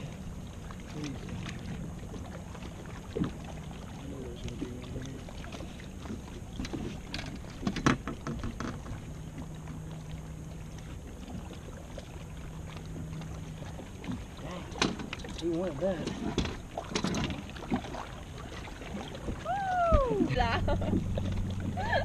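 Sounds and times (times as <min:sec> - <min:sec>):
boat steady low hum: 0:00.0 - 0:22.0
knocks and clunks on boat: 0:00.0 - 0:22.0.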